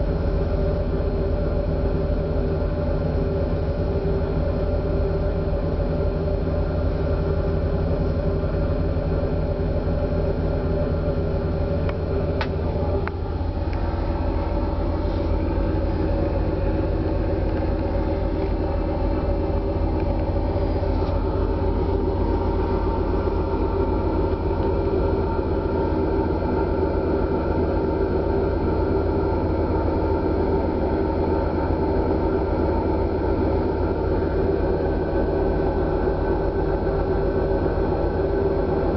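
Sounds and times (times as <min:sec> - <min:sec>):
ship engines rumbling: 0:00.0 - 0:38.9.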